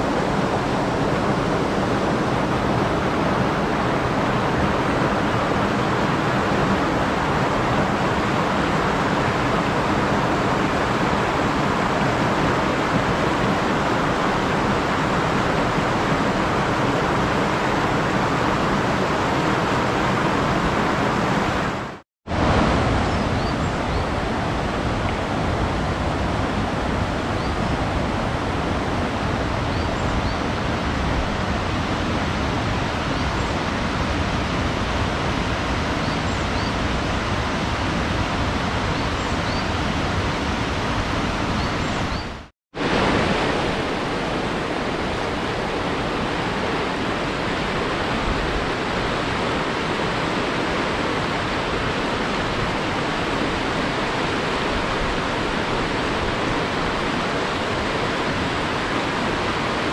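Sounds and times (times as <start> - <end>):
river water rushing over stones: 0.0 - 59.9.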